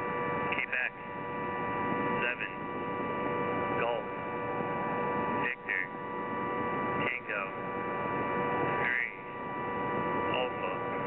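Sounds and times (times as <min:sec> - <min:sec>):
interference chirps: 0:00.0 - 0:11.0
radio static hiss: 0:00.0 - 0:11.0.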